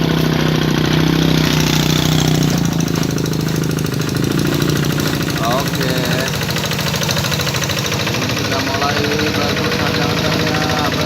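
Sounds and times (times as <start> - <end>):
tractor engine knocking steadily: 0.0 - 11.0.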